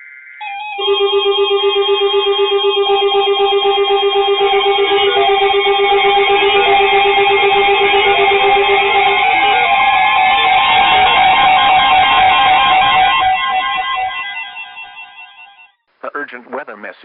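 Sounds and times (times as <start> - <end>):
held electronic alarm tones: 0.0 - 15.8
weather alert radio beeping: 0.4 - 15.7.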